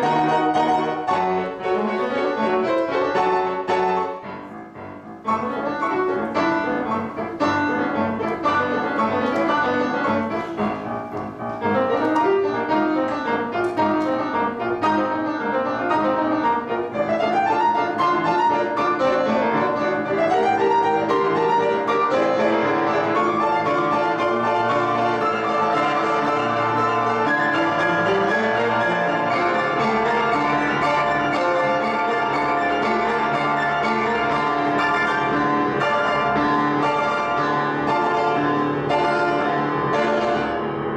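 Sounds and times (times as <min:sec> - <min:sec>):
grand piano fast runs: 0:00.0 - 0:40.9.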